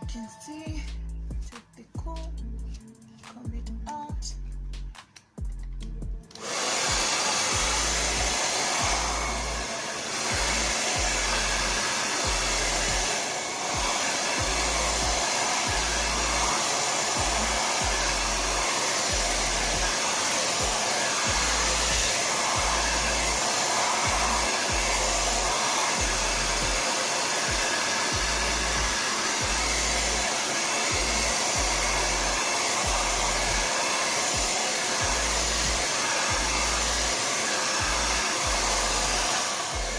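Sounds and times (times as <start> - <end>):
hair dryer blowing: 6.2 - 39.9.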